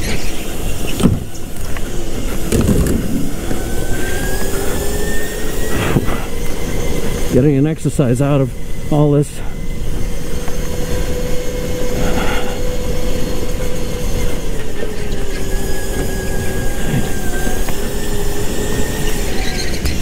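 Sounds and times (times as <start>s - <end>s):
constant rumbling noise: 0.0s - 20.0s
go-kart engine whine: 0.0s - 20.0s.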